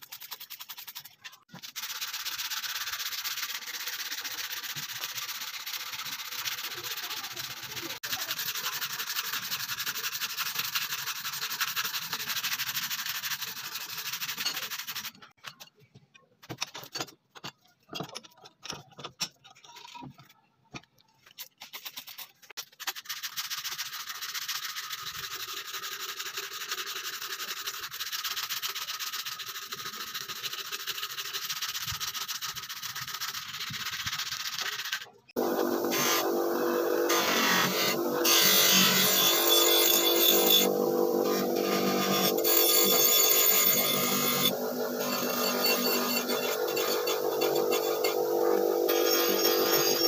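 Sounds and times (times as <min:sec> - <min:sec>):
sandpaper rasping on metal: 0:00.0 - 0:15.7, 0:21.5 - 0:50.0.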